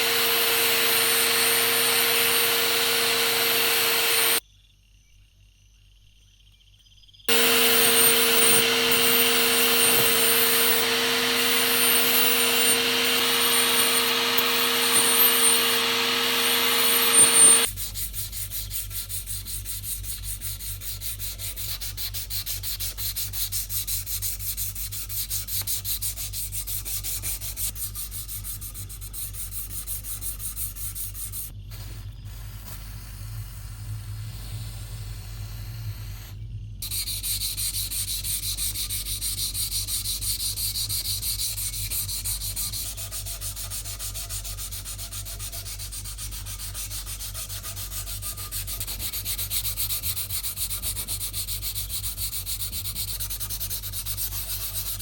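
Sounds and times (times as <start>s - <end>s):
hand sanding scratching strokes: 0.0s - 4.4s, 7.3s - 31.5s, 36.8s - 55.0s.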